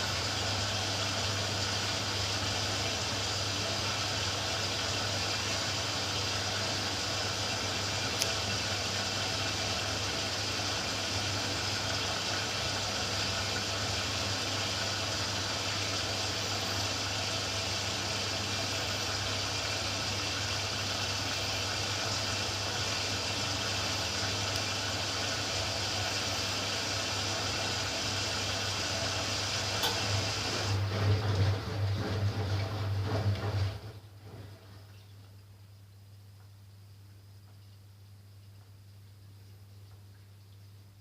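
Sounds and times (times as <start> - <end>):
water hissing into washing machine: 0.0 - 35.7
low machine hum: 0.0 - 41.0.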